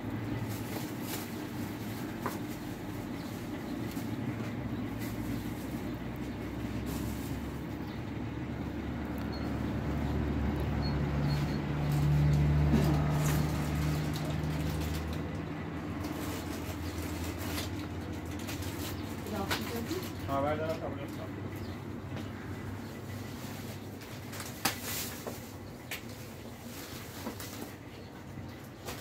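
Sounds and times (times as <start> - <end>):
motor engine humming: 0.0 - 24.2.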